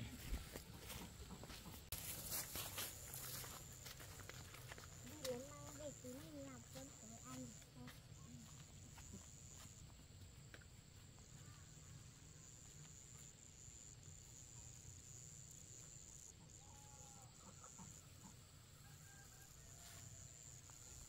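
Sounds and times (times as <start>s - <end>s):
high insect drone: 2.0s - 21.0s.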